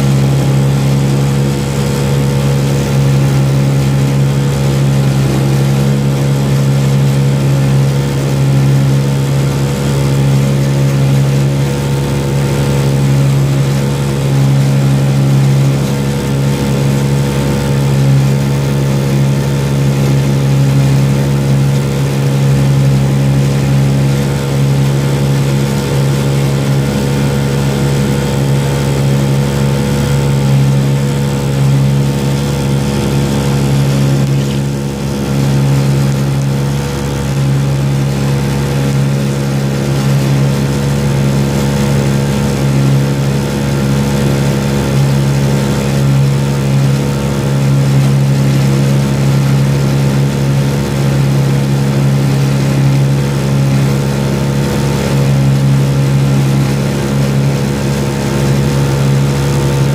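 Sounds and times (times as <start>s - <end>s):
boat motor humming: 0.0s - 59.9s.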